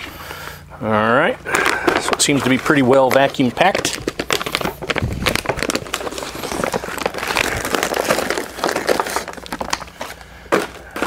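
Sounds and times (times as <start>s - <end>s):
plastic wrapping tearing and crackling: 1.4s - 11.0s.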